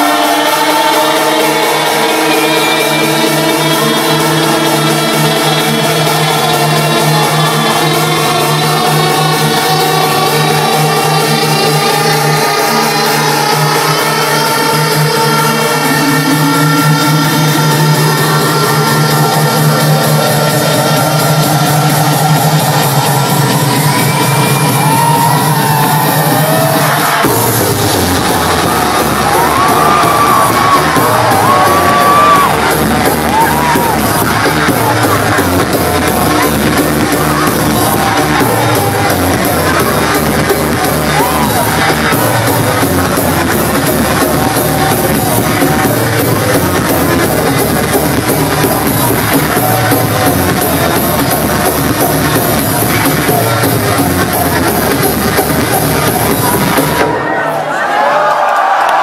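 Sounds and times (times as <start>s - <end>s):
synth melody: 0.0s - 57.4s
electronic house music: 0.0s - 59.0s.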